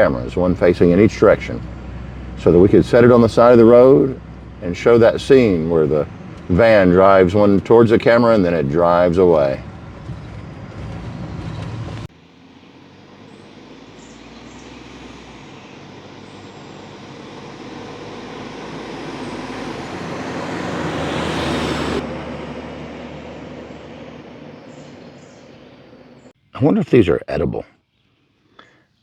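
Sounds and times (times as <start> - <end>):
van engine and tyre noise: 0.0 - 27.4.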